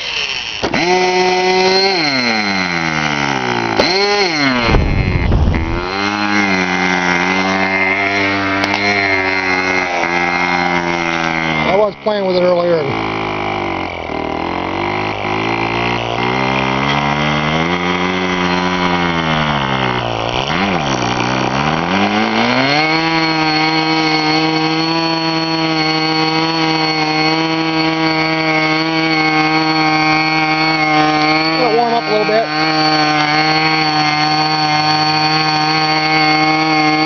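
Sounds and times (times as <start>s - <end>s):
model airplane engine running: 0.0s - 37.0s.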